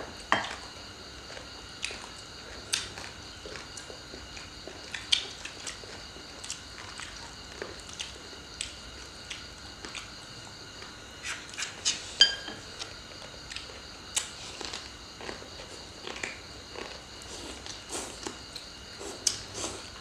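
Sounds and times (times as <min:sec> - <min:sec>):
chewing food: 0:01.2 - 0:12.0, 0:12.6 - 0:20.0.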